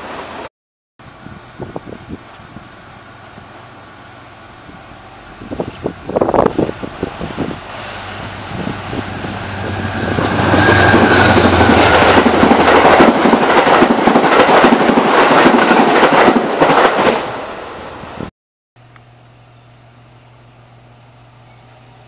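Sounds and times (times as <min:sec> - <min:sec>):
diesel locomotive passing: 0:00.0 - 0:18.3.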